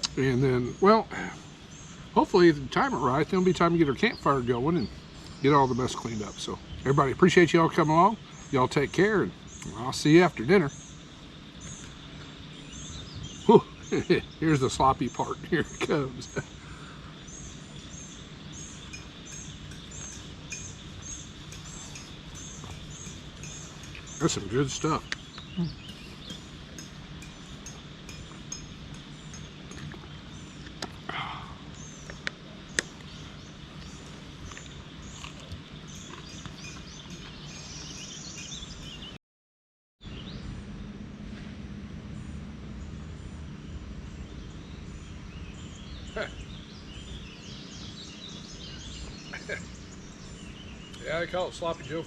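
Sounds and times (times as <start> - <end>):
bird chirping: 0.0 - 39.2, 42.2 - 52.0
low outdoor hum: 0.0 - 39.2, 40.0 - 52.0.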